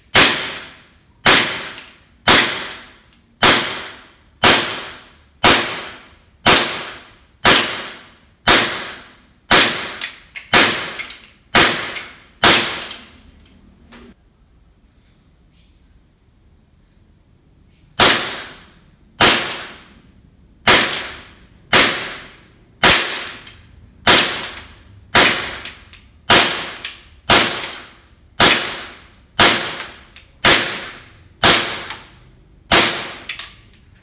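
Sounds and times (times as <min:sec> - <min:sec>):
airsoft pistol shots: 0:00.1 - 0:13.0, 0:18.0 - 0:19.9, 0:20.6 - 0:33.4.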